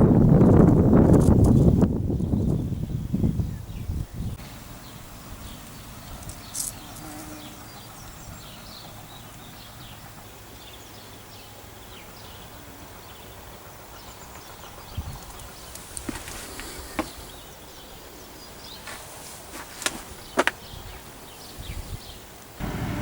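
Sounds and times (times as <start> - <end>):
small birds chirping: 0.5 - 22.6.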